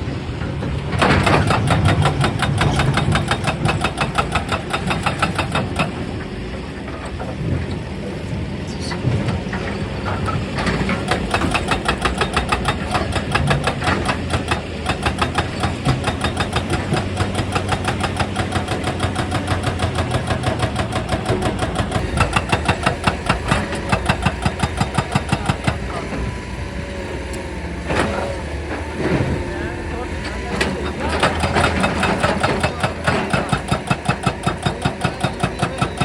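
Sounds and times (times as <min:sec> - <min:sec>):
diesel engine running: 0:00.0 - 0:36.0
hydraulic rock breaker hammering stone: 0:00.4 - 0:07.6, 0:09.2 - 0:36.0.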